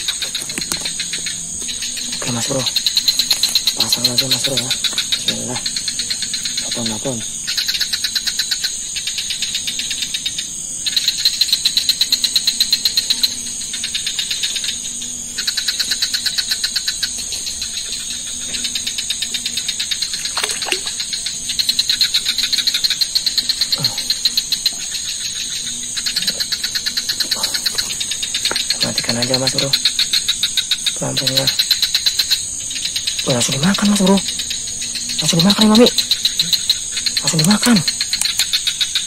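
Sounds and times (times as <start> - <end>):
high-pitched insect buzz: 0.0 - 39.0
insects pulsing trill: 0.0 - 39.0.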